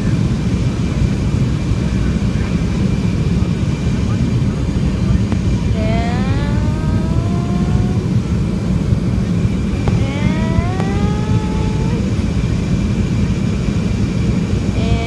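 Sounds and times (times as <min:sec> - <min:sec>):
jet cabin rumble: 0:00.0 - 0:15.0
jet engine whine: 0:00.0 - 0:15.0.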